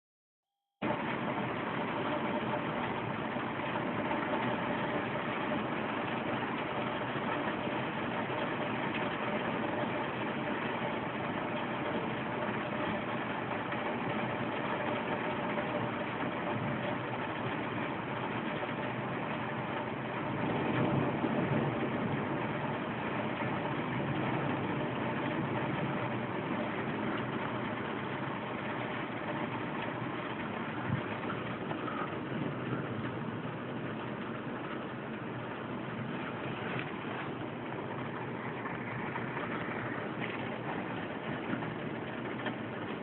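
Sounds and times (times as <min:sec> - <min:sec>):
faint steady hum: 0:00.8 - 0:43.0
traffic-like rumble: 0:00.8 - 0:43.0.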